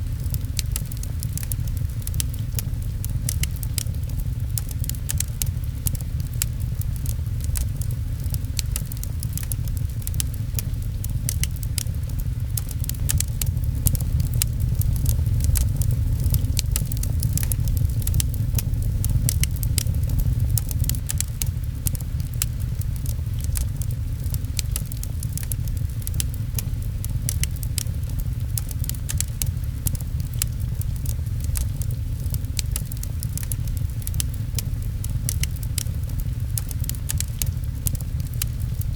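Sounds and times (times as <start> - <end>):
rain pattering: 0.0 - 38.9
wood fire crackling: 0.0 - 38.9.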